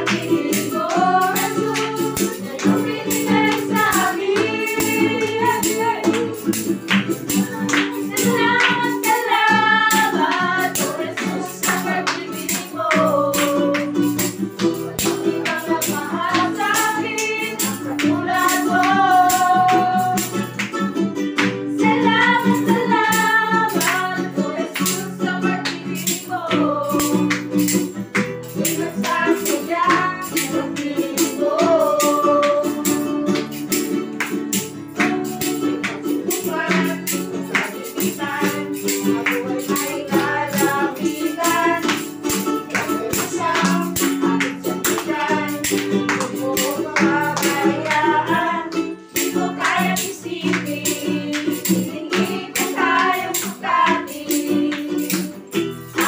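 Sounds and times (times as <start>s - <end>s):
women singing: 0.0s - 20.7s, 21.4s - 56.0s
acoustic guitar: 0.0s - 56.0s
strummed ukulele: 0.0s - 56.0s.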